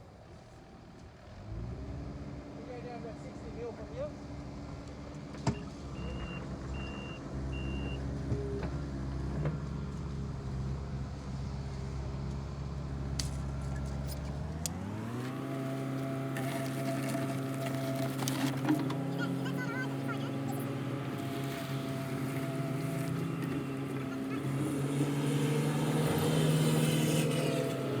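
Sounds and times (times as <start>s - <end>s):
diesel engine running and revving: 0.0s - 28.0s.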